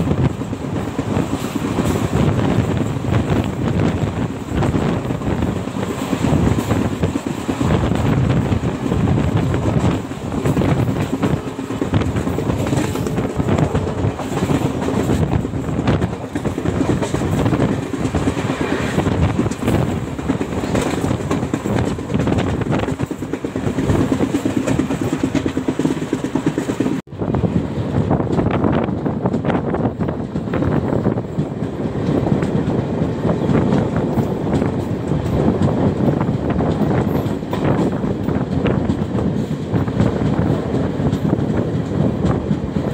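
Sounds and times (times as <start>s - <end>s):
clickety-clack over rail joints: 0.0s - 42.9s
train wheels rumbling on track: 0.0s - 42.9s.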